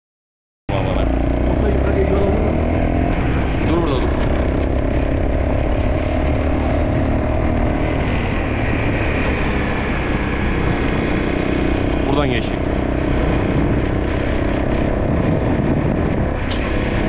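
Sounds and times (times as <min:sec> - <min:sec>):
dirt bike engine running: 0:00.7 - 0:17.0.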